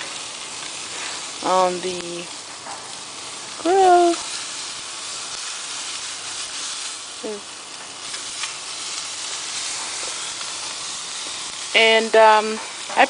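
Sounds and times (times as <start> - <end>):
fish sizzling on grill: 0.0 - 13.0.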